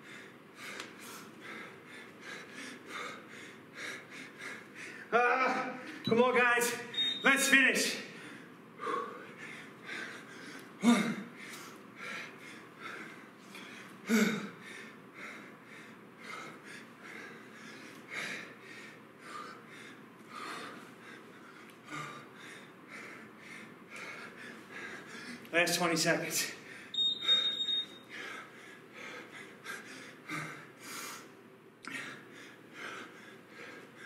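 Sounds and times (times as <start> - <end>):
man breathing hard: 0.0 - 6.0, 8.0 - 25.5, 26.6 - 34.0.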